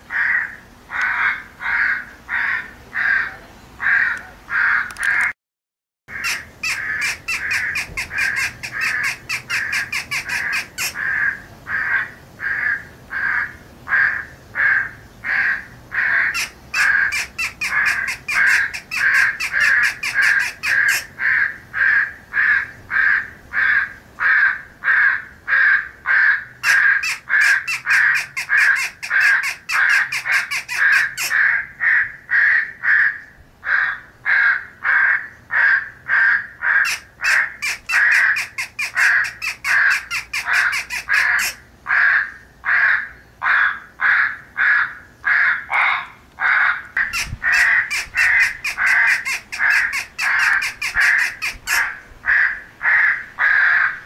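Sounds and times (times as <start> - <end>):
crows cawing: 0.1 - 5.4, 6.1 - 54.0.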